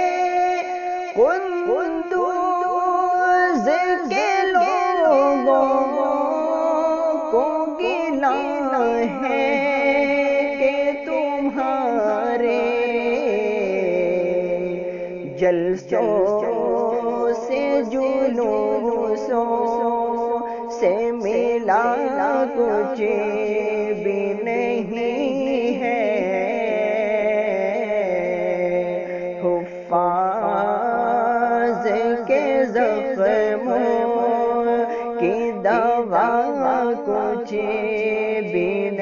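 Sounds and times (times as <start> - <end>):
person singing slow melody: 0.0 - 39.0.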